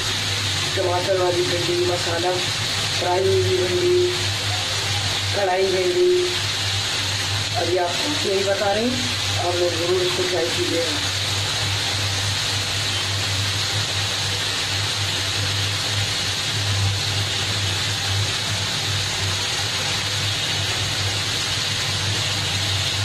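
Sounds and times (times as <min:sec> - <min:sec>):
bubbling sizzle in a wok: 0:00.0 - 0:23.0.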